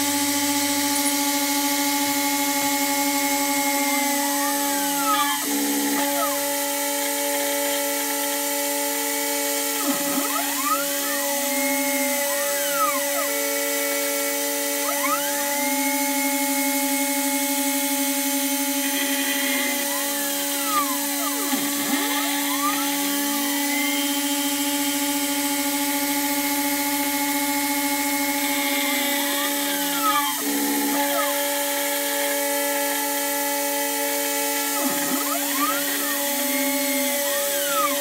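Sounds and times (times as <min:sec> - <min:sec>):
motor tones sweeping in pitch: 0:00.0 - 0:38.0
router spindle whine and cutting: 0:00.0 - 0:38.0.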